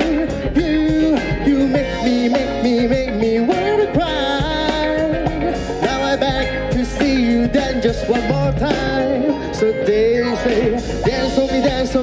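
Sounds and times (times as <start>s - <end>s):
live pop band playing: 0.0s - 12.0s
man singing: 0.0s - 12.0s.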